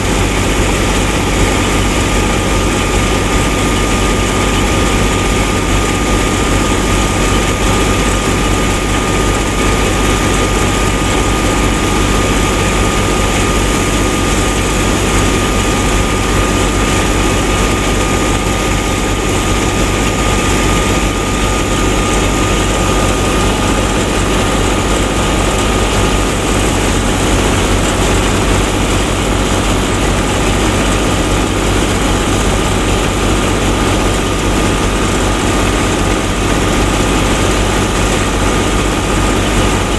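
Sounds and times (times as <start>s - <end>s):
model thresher whirring: 0.0s - 39.9s.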